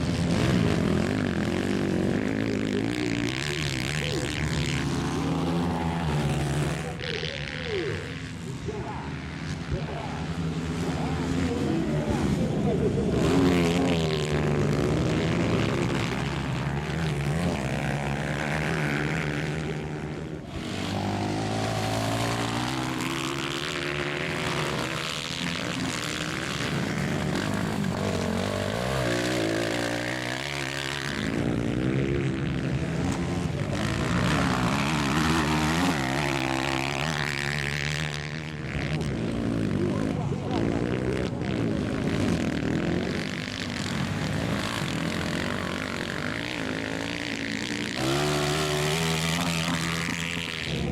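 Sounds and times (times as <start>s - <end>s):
racing motorcycles revving: 0.0s - 50.9s.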